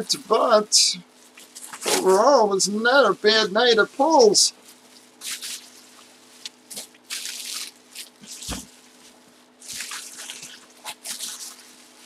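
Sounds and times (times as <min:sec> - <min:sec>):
bubble wrap crinkling: 0:01.1 - 0:02.4, 0:03.0 - 0:12.0.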